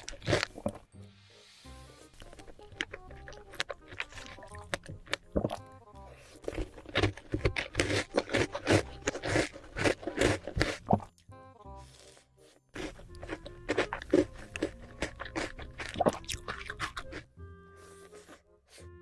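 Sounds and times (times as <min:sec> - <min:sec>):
chewing crunchy chocolate: 0:00.0 - 0:00.8, 0:02.1 - 0:11.2, 0:11.8 - 0:18.9
background music: 0:00.0 - 0:19.0.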